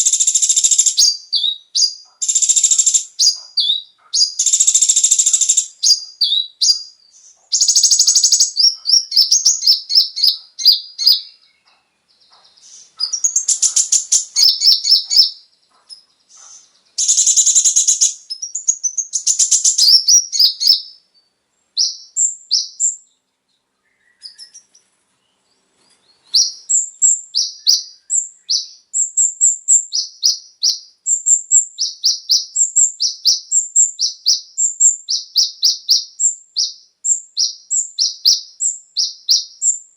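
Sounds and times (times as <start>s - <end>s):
sunbird singing high trills: 0.0s - 23.2s, 23.8s - 39.9s.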